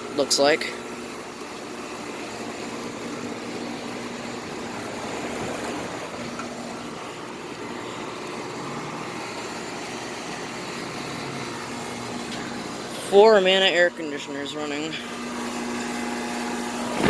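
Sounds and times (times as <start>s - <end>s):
air conditioner units running: 0.0s - 17.0s.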